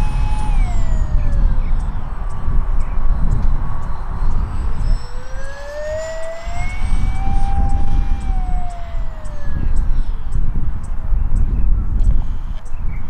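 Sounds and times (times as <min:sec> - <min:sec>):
electric ducted fan whining: 0:00.0 - 0:12.6.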